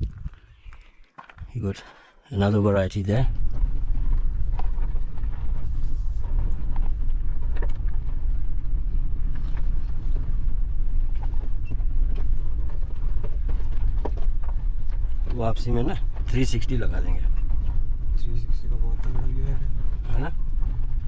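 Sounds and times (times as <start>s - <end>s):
body creaks and rattles: 0.0s - 2.0s, 2.6s - 21.0s
engine and tyres rumbling: 0.0s - 21.0s.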